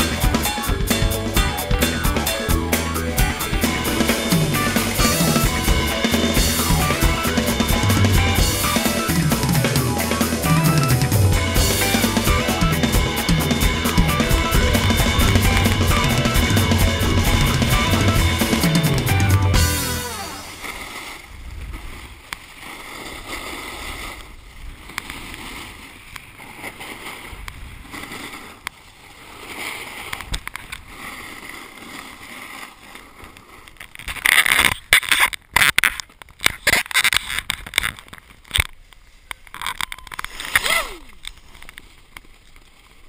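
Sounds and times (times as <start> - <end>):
snowboard scraping over packed snow: 0.0 - 35.0.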